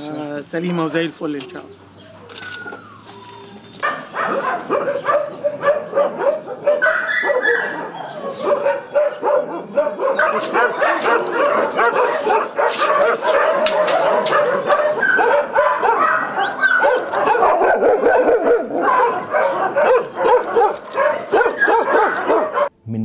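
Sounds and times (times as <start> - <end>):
dogs barking and yelping: 2.0 - 22.7.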